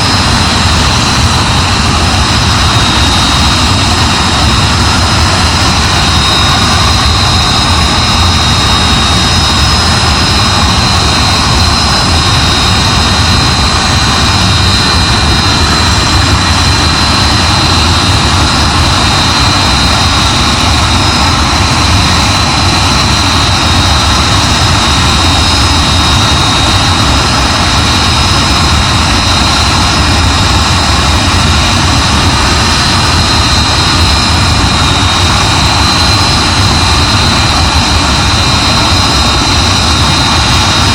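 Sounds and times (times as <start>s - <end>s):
jet engine roaring with whine: 0.0s - 40.9s.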